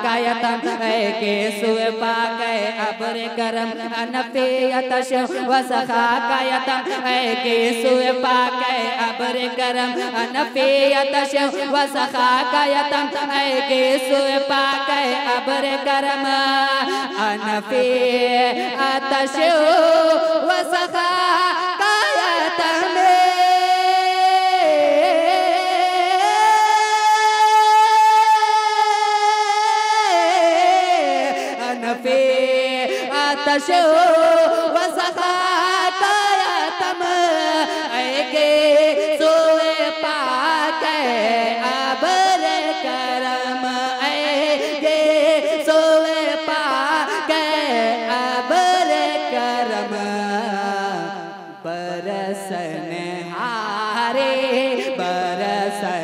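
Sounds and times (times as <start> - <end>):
man singing into a microphone: 0.0 - 56.0.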